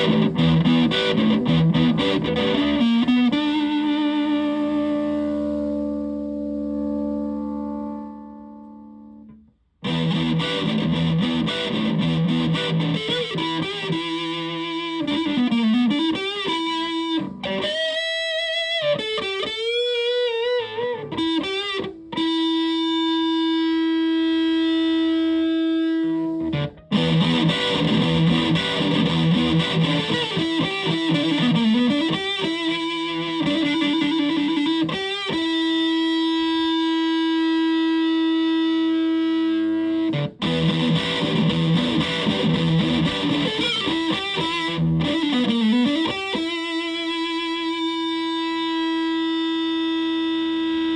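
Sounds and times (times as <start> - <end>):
distorted fuzz electric guitar: 0.0 - 50.9.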